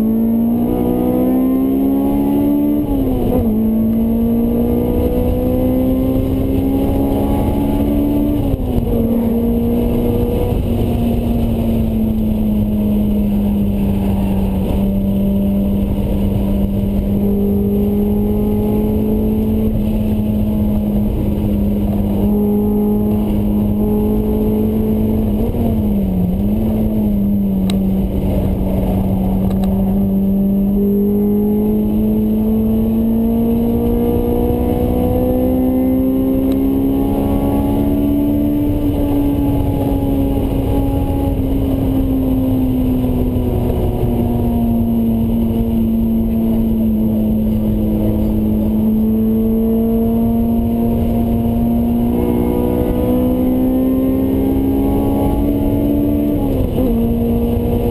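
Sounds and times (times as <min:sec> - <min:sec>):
car engine revving: 0:00.0 - 0:57.9
wind and road noise: 0:00.0 - 0:57.9.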